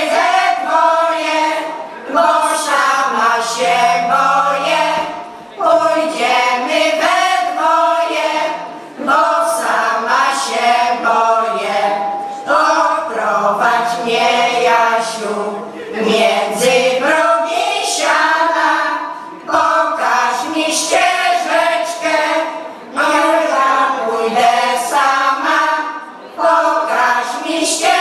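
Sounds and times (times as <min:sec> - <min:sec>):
women's choir singing folk song: 0:00.0 - 0:28.0.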